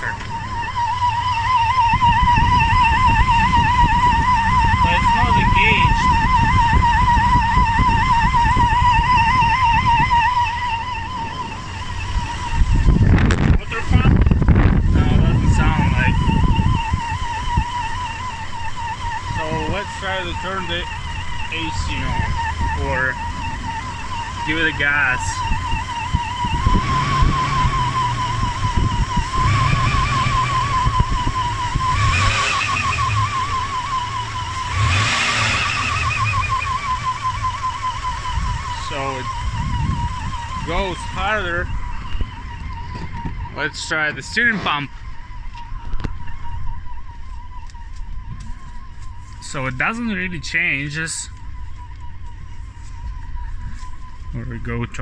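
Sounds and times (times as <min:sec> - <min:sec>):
car engine idling: 0:00.0 - 0:55.0
high-pitched wavering whine: 0:00.0 - 0:55.0.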